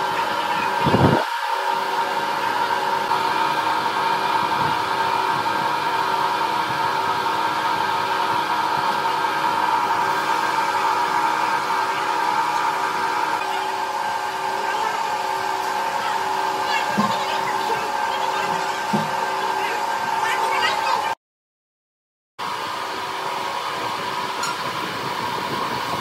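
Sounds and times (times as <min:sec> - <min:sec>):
lathe drilling with high whine: 0:00.0 - 0:21.2, 0:22.4 - 0:26.0.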